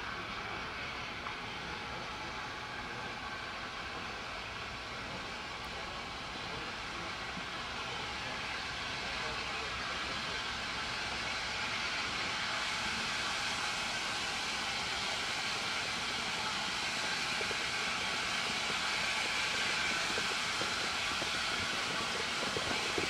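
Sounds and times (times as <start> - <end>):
steam hissing from locomotive: 0.0 - 23.0.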